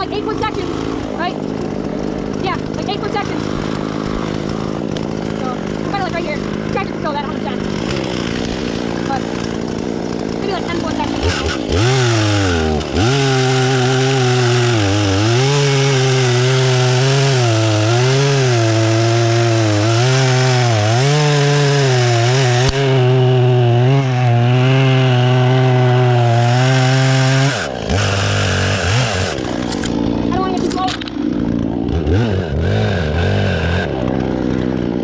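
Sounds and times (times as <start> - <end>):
chainsaw cutting through tree trunk: 0.0 - 35.0.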